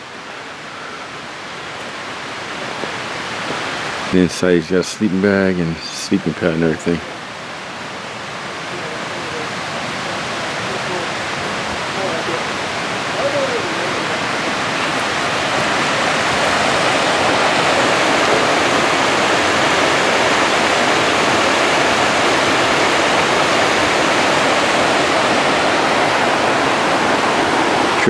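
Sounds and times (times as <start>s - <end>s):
creek rushing over rocks: 0.0s - 28.0s.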